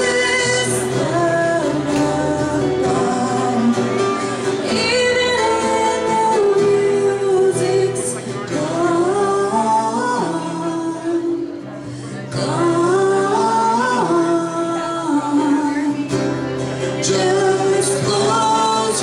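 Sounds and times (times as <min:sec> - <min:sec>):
woman and man singing in harmony: 0:00.0 - 0:16.1, 0:17.0 - 0:19.0
acoustic guitar: 0:00.0 - 0:19.0.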